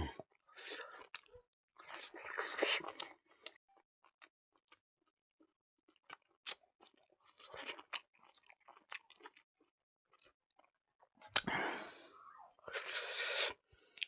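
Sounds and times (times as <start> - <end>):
person chewing and crunching food: 0.0 - 14.0.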